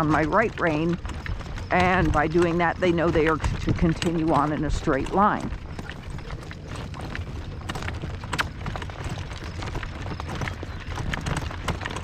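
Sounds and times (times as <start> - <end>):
hooves clopping at a trot: 0.0 - 12.0
wind rumble on microphone: 0.0 - 12.0.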